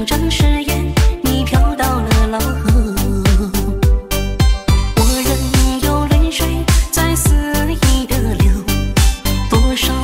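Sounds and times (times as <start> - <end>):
person singing: 0.0 - 4.0, 5.0 - 10.0
heavy kick drum beat: 0.4 - 9.7.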